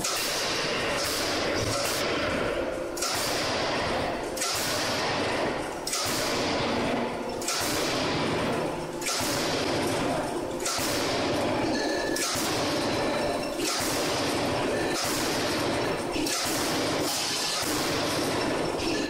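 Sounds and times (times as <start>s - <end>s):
forging hammer heavy blows: 0.0s - 19.0s.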